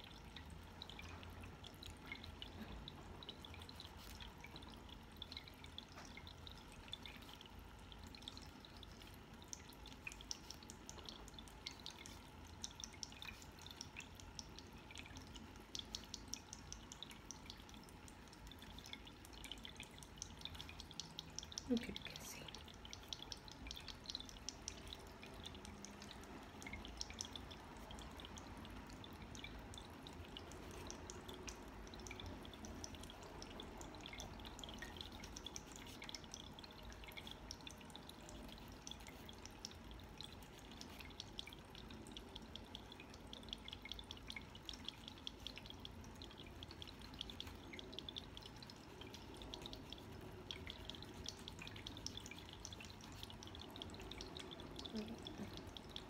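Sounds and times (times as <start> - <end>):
water fountain trickling: 0.0 - 56.0.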